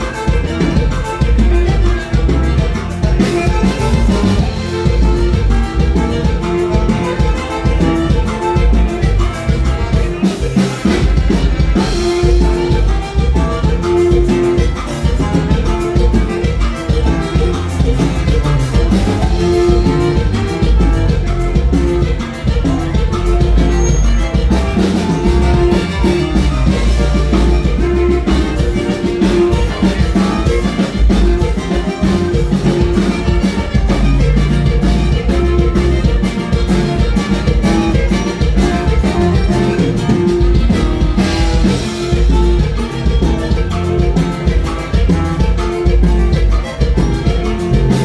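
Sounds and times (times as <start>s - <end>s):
live band with saxophone: 0.0s - 48.0s.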